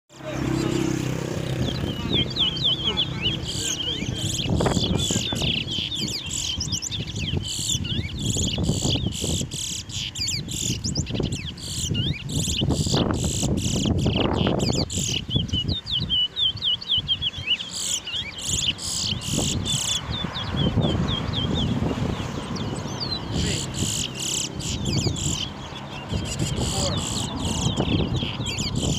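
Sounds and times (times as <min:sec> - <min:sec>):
finches chirping: 0:00.1 - 0:28.9.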